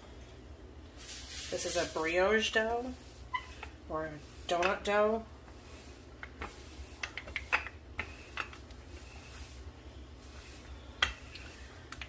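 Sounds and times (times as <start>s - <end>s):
rolling pin rolling dough: 1.5s - 12.0s.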